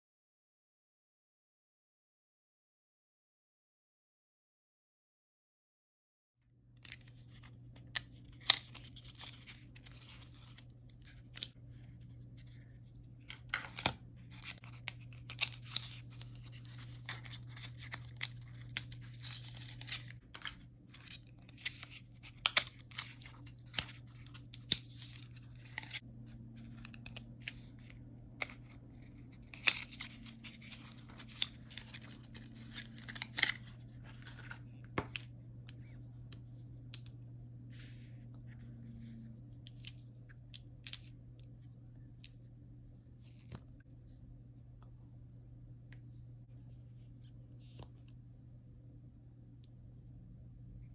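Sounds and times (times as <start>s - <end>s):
low hum: 6.6s - 50.9s.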